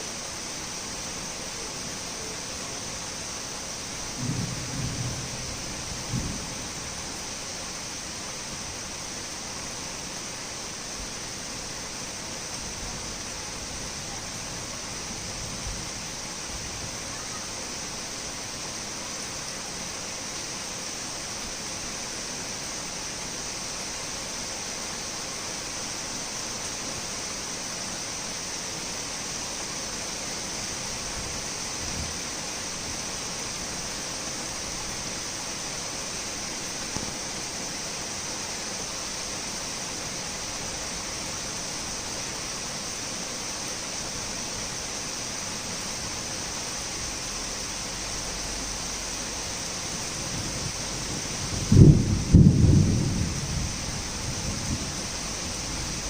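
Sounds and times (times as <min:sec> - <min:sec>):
torrential rain pouring: 0:00.0 - 0:56.0.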